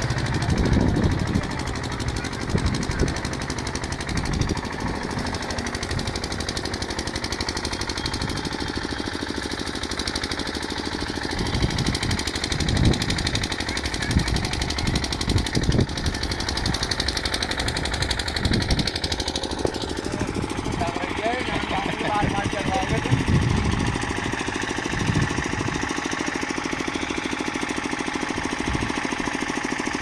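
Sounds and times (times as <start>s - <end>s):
welding equipment chatter: 0.0s - 30.0s.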